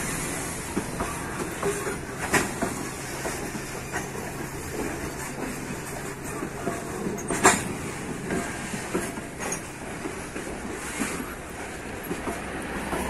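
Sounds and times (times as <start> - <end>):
train wagons rolling on rails: 0.0 - 13.0.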